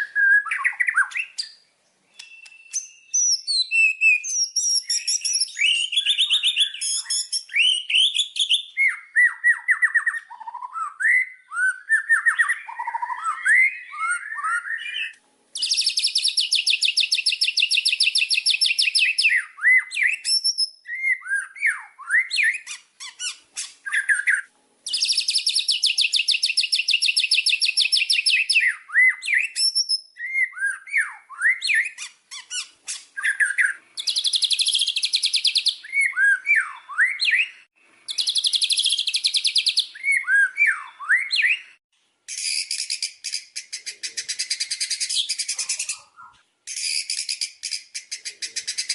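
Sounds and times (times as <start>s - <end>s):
bird singing whistles and chirps: 0.0s - 48.9s.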